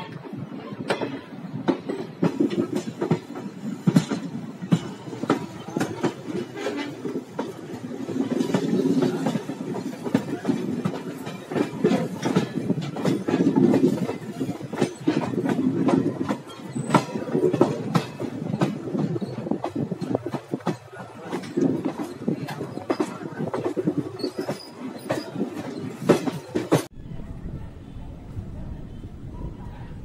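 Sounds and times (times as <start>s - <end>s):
train rumbling on track: 0.0s - 30.0s
train wheels clicking over rails: 0.8s - 26.9s.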